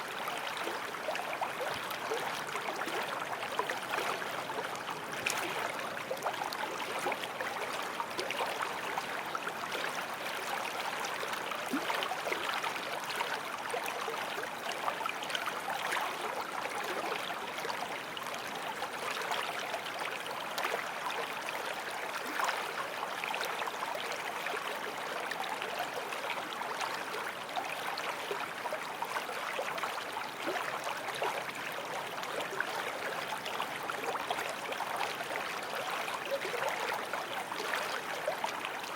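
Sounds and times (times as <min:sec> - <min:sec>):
creek water babbling over stones: 0:00.0 - 0:38.9.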